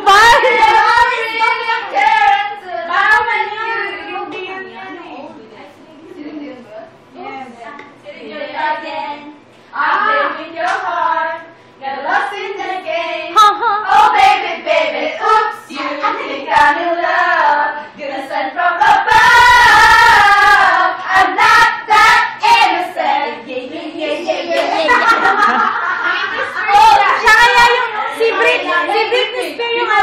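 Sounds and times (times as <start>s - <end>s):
women singing together: 0.0s - 30.0s.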